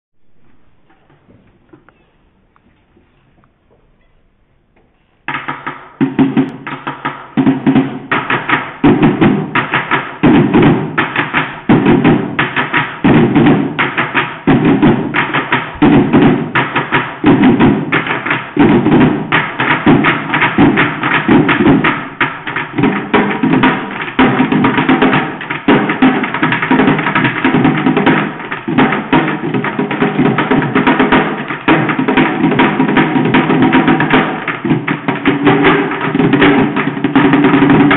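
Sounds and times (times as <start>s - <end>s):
sticks drumming on buckets: 5.3s - 37.9s.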